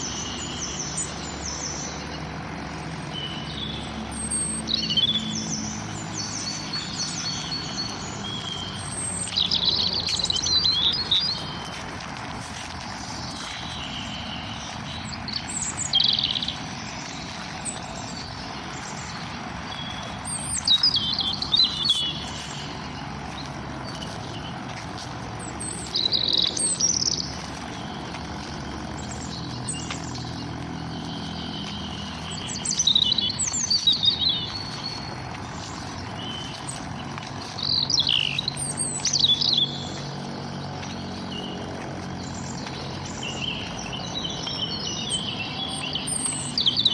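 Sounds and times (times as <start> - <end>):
birds chirping and trilling: 0.0 - 46.9.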